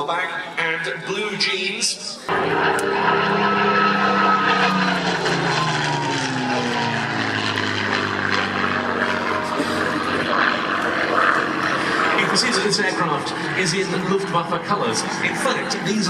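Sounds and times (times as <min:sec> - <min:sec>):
propeller plane flying past: 0:02.3 - 0:16.0.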